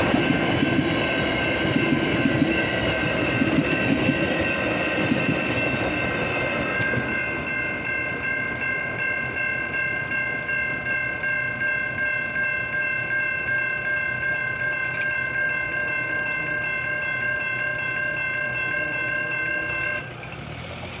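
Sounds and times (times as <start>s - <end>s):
train rumbling past: 0.0s - 12.9s, 14.7s - 21.0s
crossing bell ringing: 0.0s - 21.0s.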